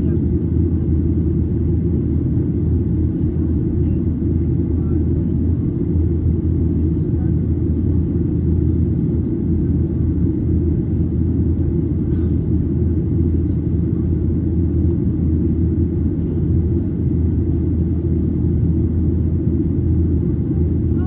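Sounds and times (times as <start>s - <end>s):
airflow over fuselage: 0.0s - 21.0s
airplane engines in flight: 0.0s - 21.0s.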